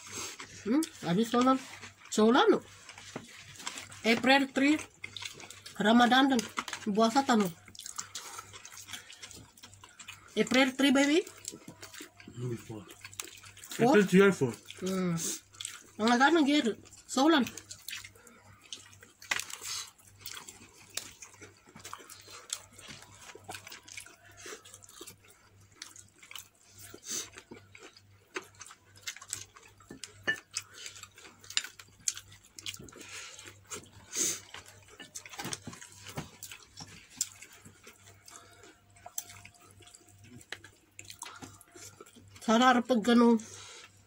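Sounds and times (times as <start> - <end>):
chewing crunchy food: 0.0 - 44.0.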